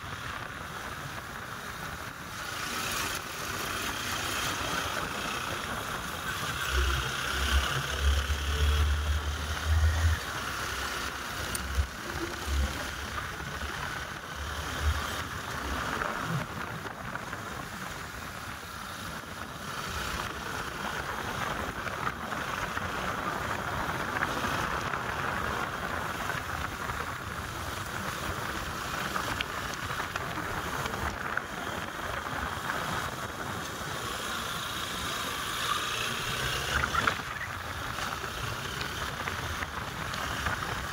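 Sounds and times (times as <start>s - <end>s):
motorcycle riding: 0.0s - 40.9s.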